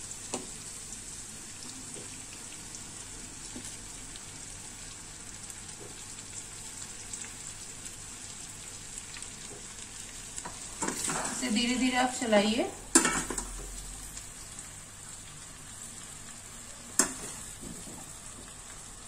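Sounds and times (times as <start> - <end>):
spices sizzling in oil: 0.0 - 19.0.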